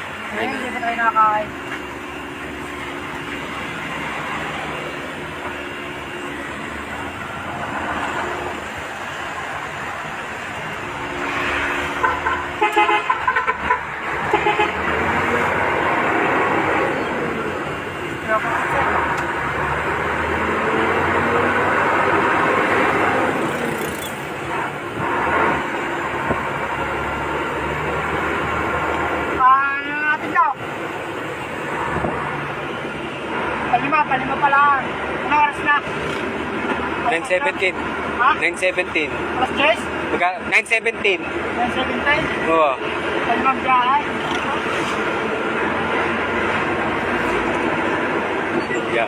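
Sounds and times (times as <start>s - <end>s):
diesel engine running: 0.0s - 49.0s
road noise: 0.0s - 49.0s.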